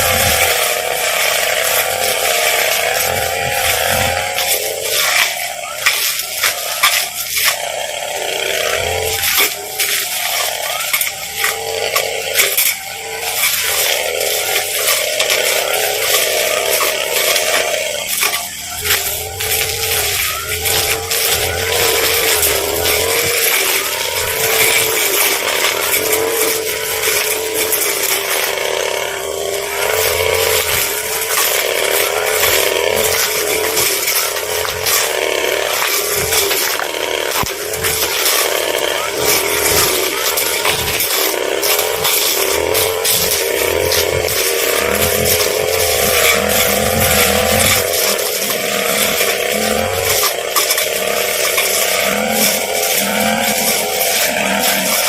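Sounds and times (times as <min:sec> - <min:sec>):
brush cutter engine running: 0:00.0 - 0:55.0
scratchy hiss: 0:00.0 - 0:55.0.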